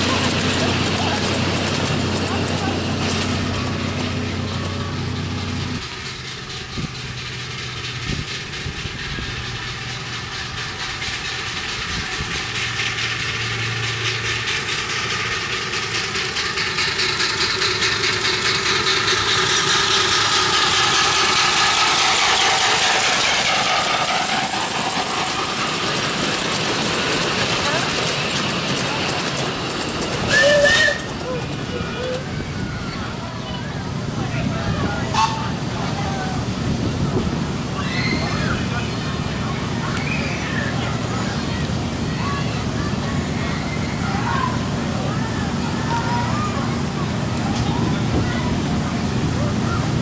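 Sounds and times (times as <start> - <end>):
miniature train passing: 0.0 - 50.0
wheels ticking over rails: 0.0 - 50.0.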